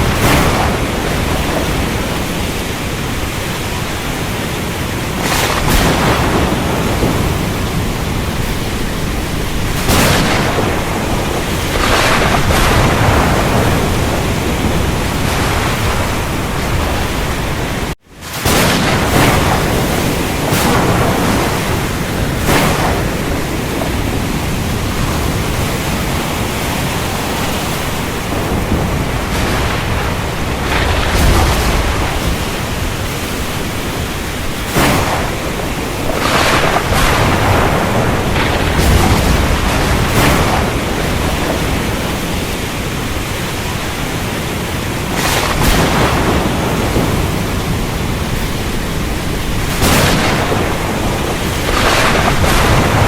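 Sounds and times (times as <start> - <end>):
rain: 0.0 - 53.0
thunder cracking and rumbling: 0.0 - 53.0.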